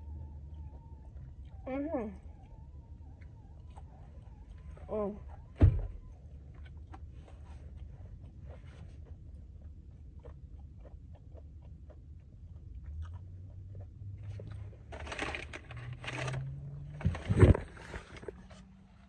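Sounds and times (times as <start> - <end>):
crunchy chewing: 0.0 - 18.7
low steady hum: 0.0 - 19.0.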